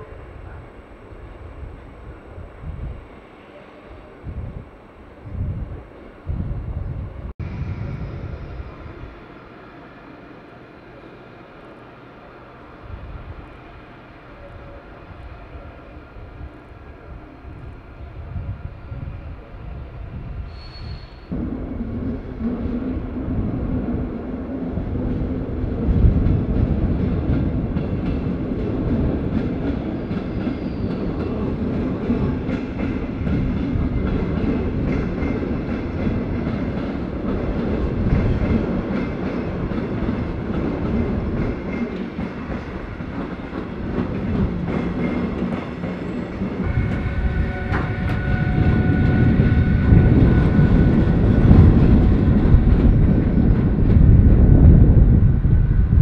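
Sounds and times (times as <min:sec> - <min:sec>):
train rumbling on tracks: 0:00.0 - 0:56.0.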